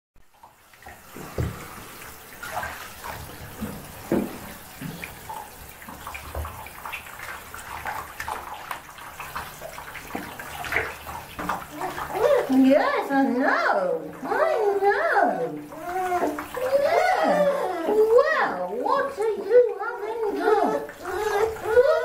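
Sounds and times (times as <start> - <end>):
water splashing in a bathtub: 0.2 - 22.0.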